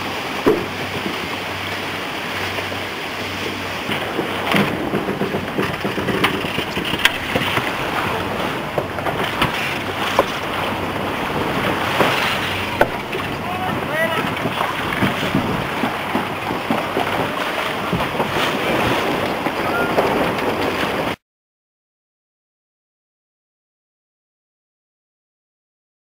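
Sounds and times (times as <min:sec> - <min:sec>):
water washing against hull: 0:00.0 - 0:21.2
wind buffeting microphone: 0:00.0 - 0:21.2.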